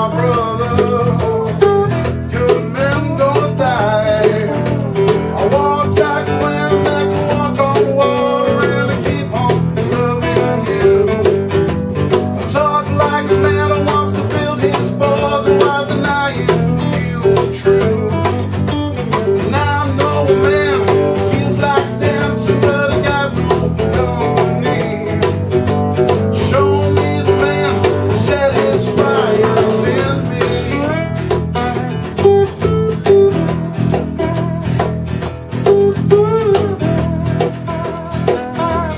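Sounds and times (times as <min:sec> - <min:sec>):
acoustic blues guitars: 0:00.0 - 0:38.9.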